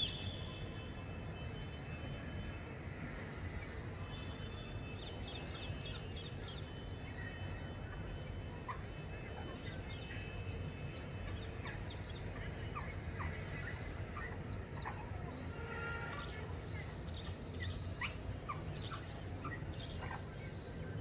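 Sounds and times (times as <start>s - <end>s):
birds chirping: 0.0s - 2.4s, 3.1s - 21.0s.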